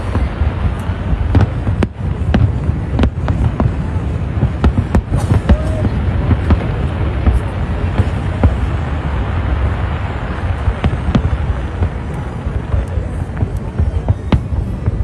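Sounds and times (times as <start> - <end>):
firework bangs: 0.0 - 15.0
low rumble of booms: 0.0 - 15.0.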